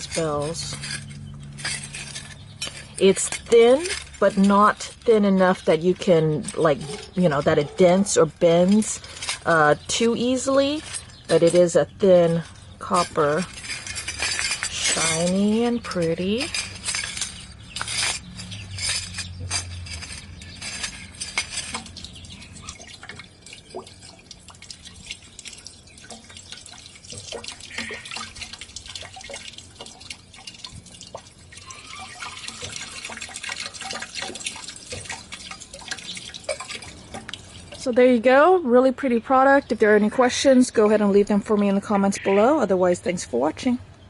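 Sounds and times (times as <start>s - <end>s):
metal clinks: 0.0s - 37.9s
water trickling down rain chain: 0.0s - 43.8s.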